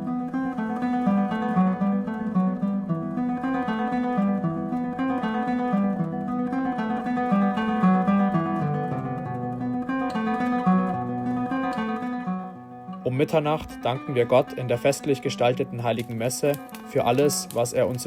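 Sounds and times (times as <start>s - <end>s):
acoustic guitar picked and strummed: 0.0s - 18.0s.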